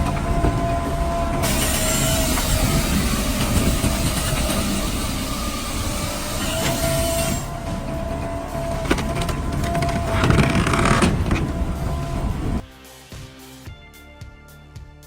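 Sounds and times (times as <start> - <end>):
circular saw cutting log: 0.0 - 12.6
machine whine and rumble: 0.0 - 12.6.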